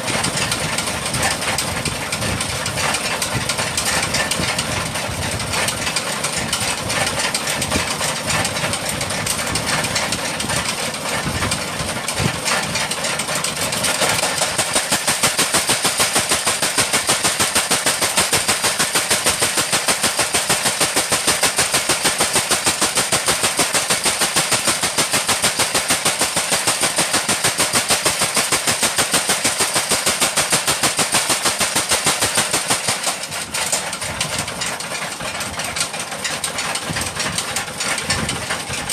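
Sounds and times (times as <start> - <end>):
fast even pounding: 0.0 - 38.9
machine running: 0.0 - 38.9.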